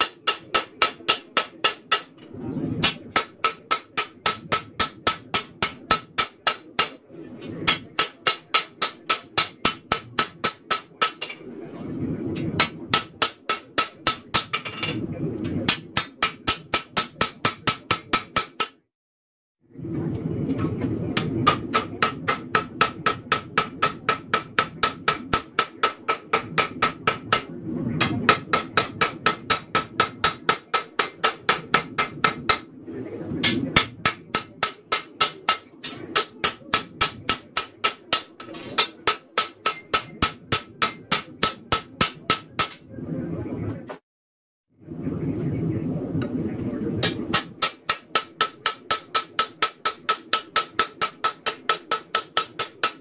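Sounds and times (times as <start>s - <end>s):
hammer striking metal on anvil: 0.0s - 7.0s, 7.6s - 11.4s, 12.4s - 15.0s, 15.7s - 18.8s, 21.2s - 32.6s, 33.4s - 42.8s, 47.0s - 53.0s.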